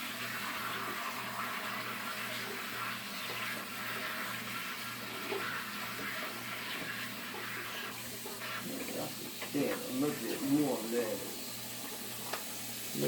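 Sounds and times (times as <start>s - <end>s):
sink sprayer water hissing: 0.0s - 13.0s.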